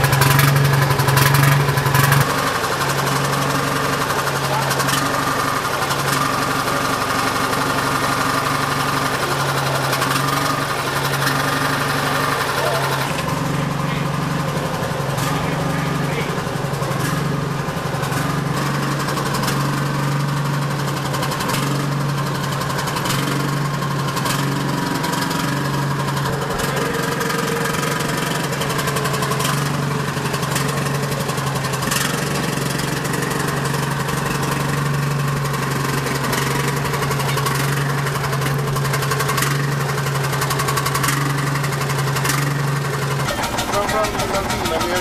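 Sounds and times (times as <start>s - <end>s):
engine running steadily: 0.0s - 45.0s.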